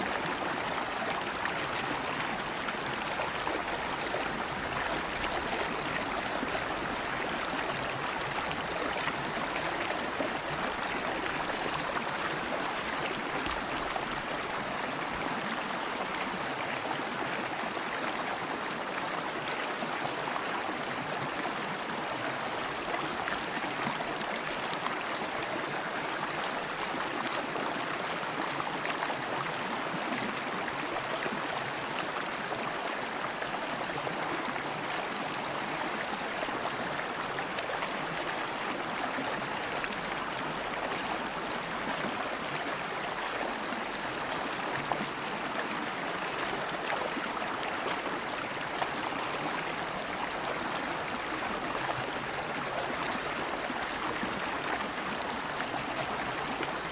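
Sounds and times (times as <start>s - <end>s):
river water flowing over rocks: 0.0s - 56.9s.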